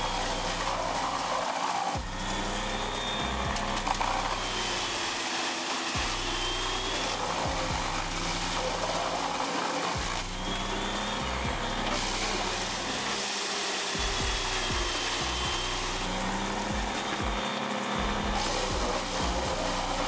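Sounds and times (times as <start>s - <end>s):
background music: 0.0s - 20.0s
wood chipper running: 0.0s - 20.0s.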